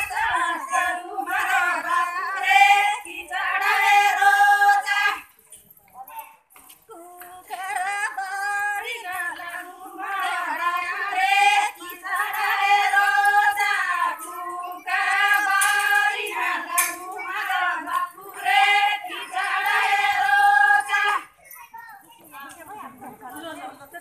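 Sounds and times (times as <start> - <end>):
women singing devotional song: 0.0 - 5.7, 6.6 - 21.4.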